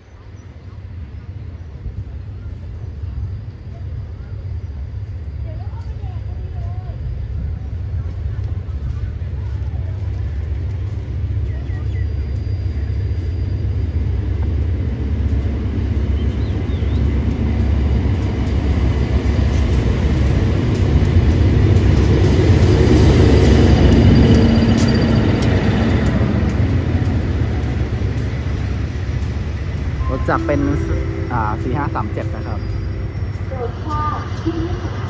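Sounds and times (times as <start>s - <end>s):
locomotive engine rumble: 0.0s - 35.0s
train wheels clicking on rails: 0.2s - 35.0s.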